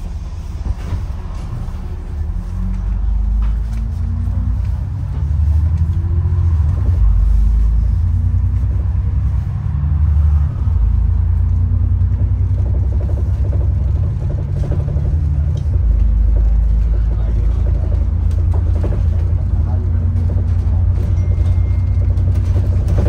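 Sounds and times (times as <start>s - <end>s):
bus engine rumbling: 0.0s - 23.0s.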